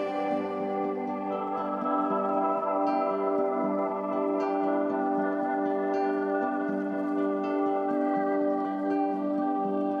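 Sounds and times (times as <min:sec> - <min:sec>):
calm ambient music: 0:00.0 - 0:10.0.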